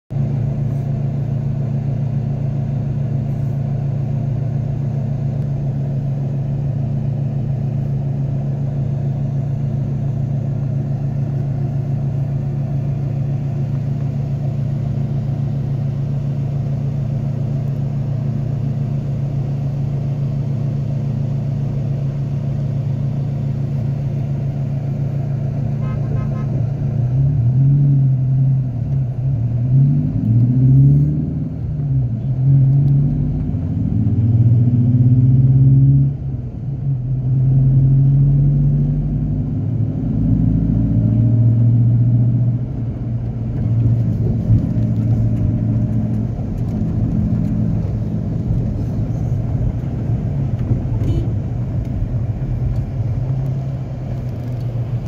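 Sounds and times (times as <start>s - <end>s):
car engine idling and revving: 0.1s - 55.0s.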